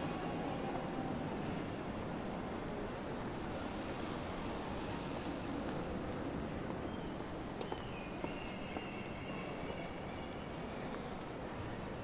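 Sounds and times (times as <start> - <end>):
outdoor noise: 0.0 - 12.0.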